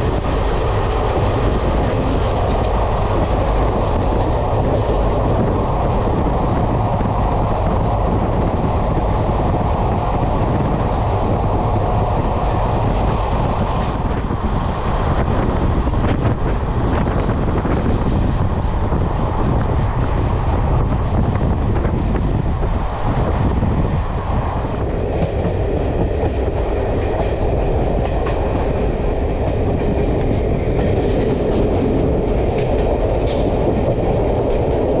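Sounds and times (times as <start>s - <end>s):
train clicks: 0.0s - 35.0s
train wheels rumbling on rail: 0.0s - 35.0s.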